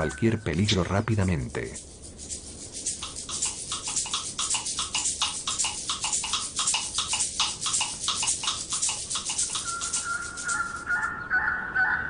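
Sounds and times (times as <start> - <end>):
monkeys chattering alarm calls: 0.0 - 12.0.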